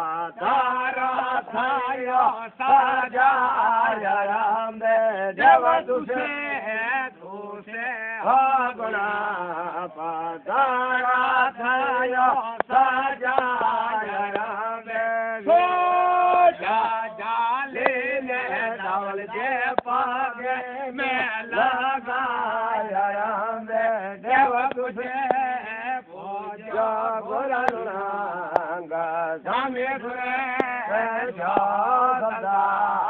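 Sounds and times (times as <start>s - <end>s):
man chanting: 0.0s - 33.0s.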